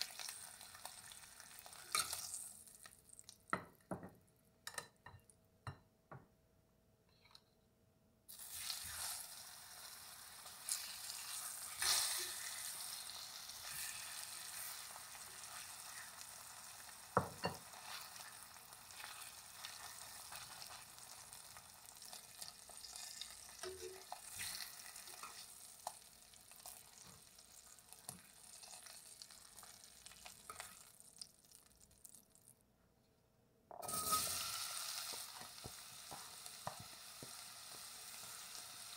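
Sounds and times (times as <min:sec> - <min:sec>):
meat searing in hot oil: 0:00.0 - 0:03.3, 0:08.3 - 0:32.3, 0:33.8 - 0:38.9.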